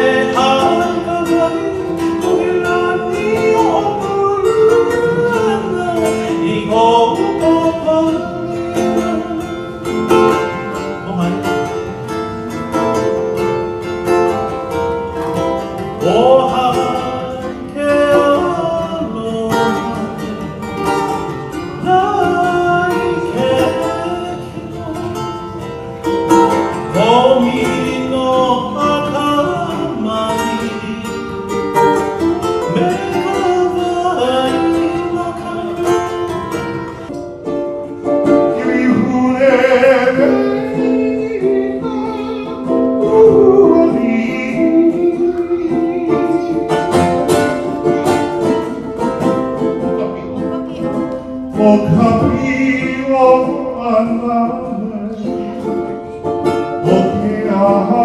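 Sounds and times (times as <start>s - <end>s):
person singing: 0.0s - 58.0s
plucked acoustic strings: 0.0s - 58.0s.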